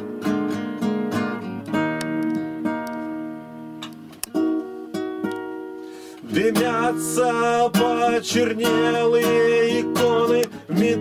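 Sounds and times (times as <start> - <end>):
nylon-string guitar playing: 0.0 - 11.0.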